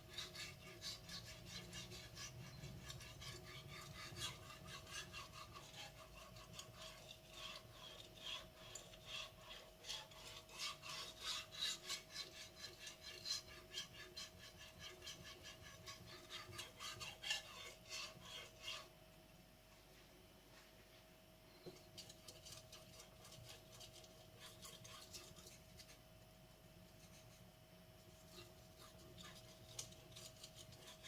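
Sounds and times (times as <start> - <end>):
knife scraping on whetstone: 0.0 - 18.9, 22.0 - 26.0, 28.1 - 31.0.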